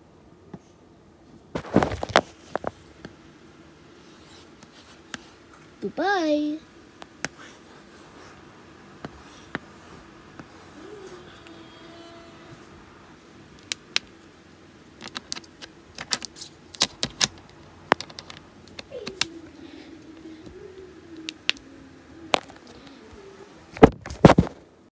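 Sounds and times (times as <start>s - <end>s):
faint low hum: 0.0s - 24.9s.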